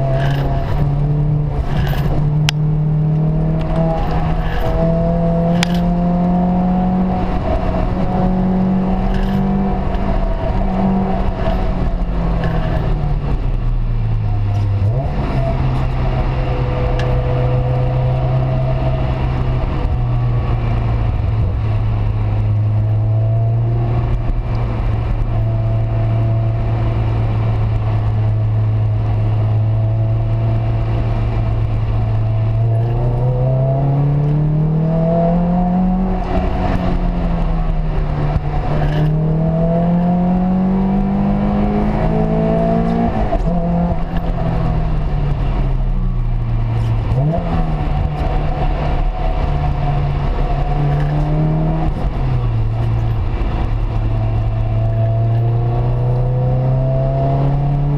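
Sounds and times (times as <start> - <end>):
car engine accelerating: 0.0 - 57.9.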